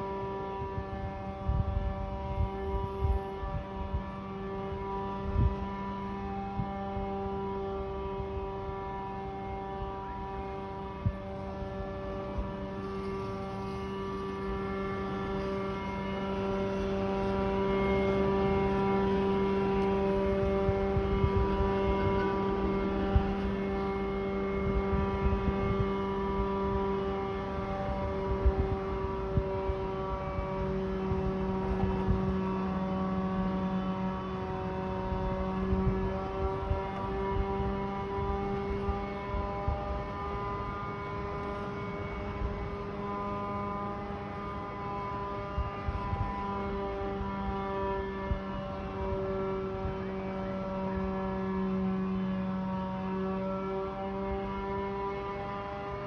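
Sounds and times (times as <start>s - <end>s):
loud droning hum: 0.0s - 56.0s.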